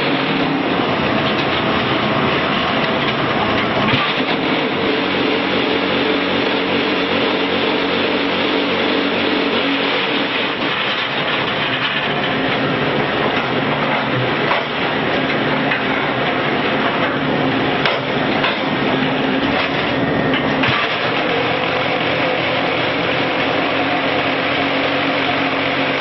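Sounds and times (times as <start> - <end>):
machine clatter and hum: 0.0 - 26.0.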